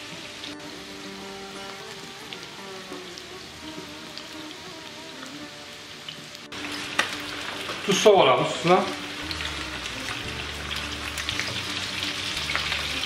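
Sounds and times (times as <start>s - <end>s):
oil crackling and sizzling: 0.0s - 13.0s
soft background music: 0.0s - 13.0s.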